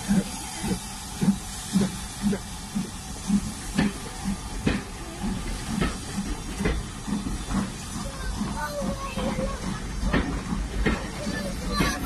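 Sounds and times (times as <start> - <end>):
steam train moving: 0.0 - 12.0.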